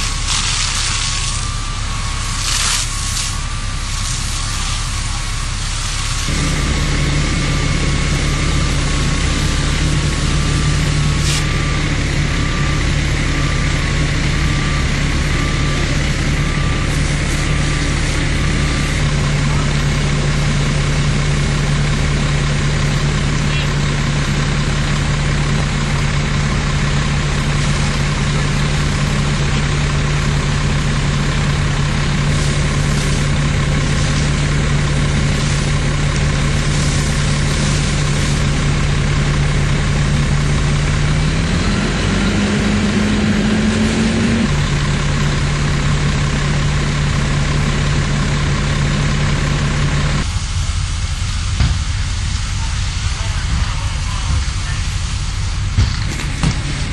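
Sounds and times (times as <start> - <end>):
fire engine droning: 0.0 - 56.9
water hissing from hoses: 0.0 - 56.9.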